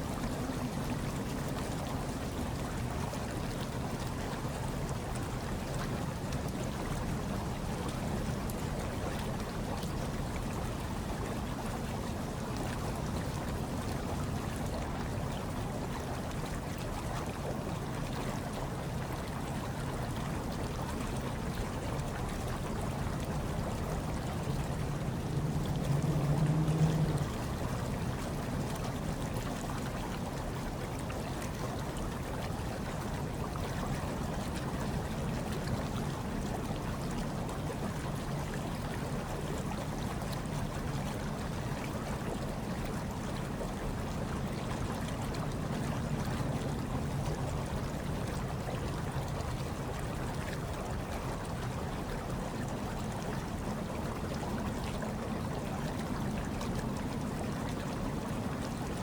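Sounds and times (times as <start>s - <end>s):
hot tub water churning: 0.0s - 59.0s.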